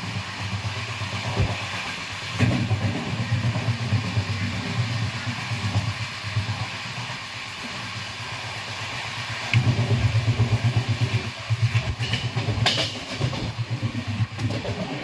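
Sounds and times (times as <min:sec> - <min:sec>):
train rumbling inside coach: 0:00.0 - 0:15.0.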